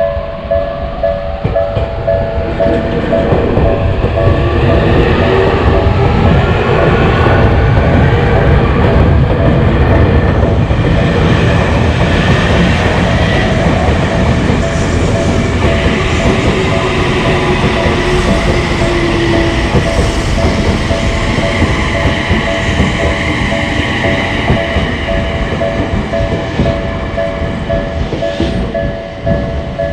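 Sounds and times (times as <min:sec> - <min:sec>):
electric train passing: 0:00.0 - 0:29.9
level crossing warning bell: 0:00.0 - 0:29.9.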